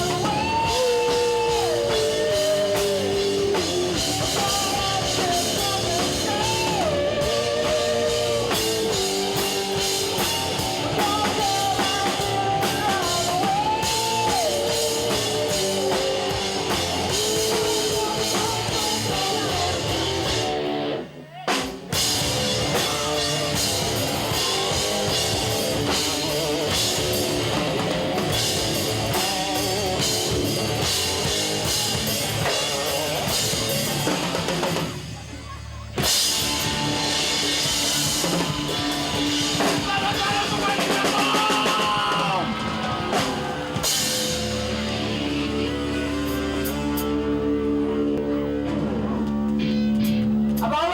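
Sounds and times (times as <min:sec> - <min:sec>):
melodic lead guitar line: 0:00.0 - 0:50.9
rock band playing live: 0:00.0 - 0:50.9.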